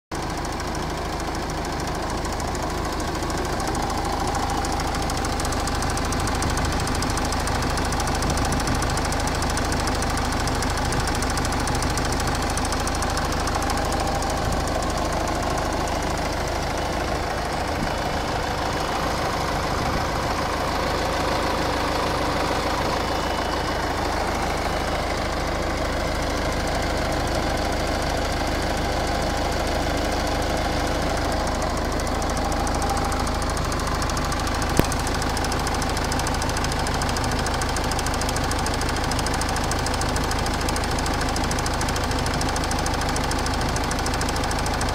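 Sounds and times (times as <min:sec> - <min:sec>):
diesel engine idling: 0:00.1 - 0:44.9.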